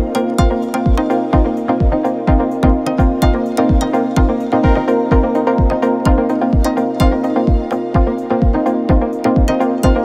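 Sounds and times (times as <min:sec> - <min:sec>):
deep kick drum: 0:00.0 - 0:10.0
electronic dance music: 0:00.0 - 0:10.0
hi-hat ticks: 0:00.0 - 0:10.0.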